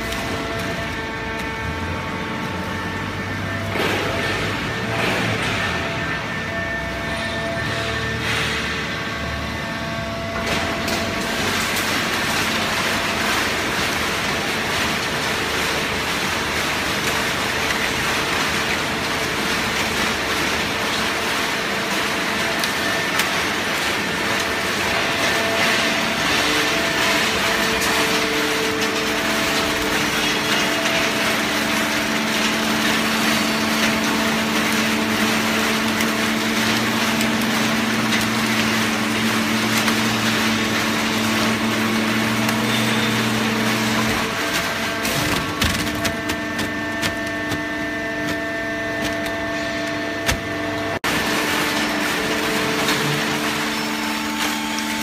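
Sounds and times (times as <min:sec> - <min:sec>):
baler machine humming: 0:00.0 - 0:55.0.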